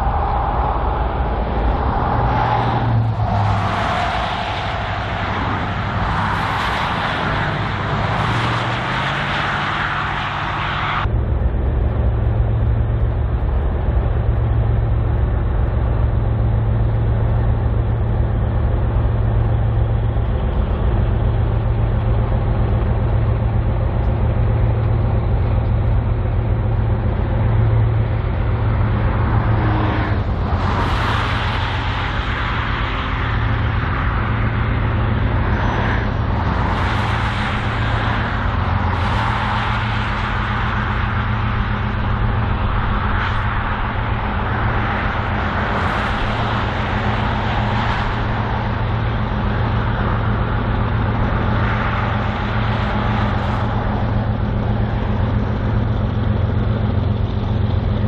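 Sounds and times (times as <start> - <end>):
high steady squeal: 0.0 - 11.1, 11.9 - 58.0
diesel locomotive engine rumble: 0.0 - 58.0.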